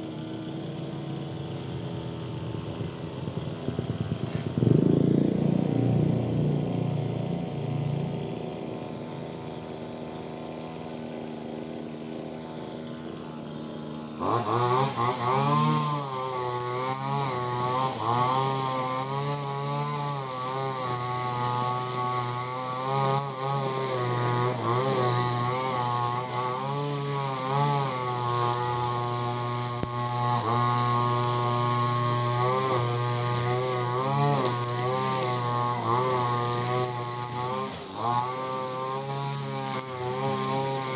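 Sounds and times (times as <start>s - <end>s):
brush cutter engine: 0.0s - 40.9s.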